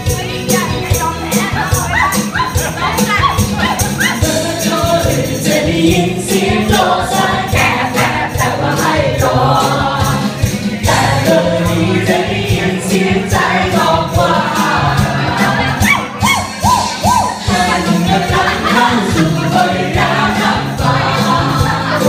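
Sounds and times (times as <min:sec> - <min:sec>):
upbeat dance music with singer: 0:00.0 - 0:22.0.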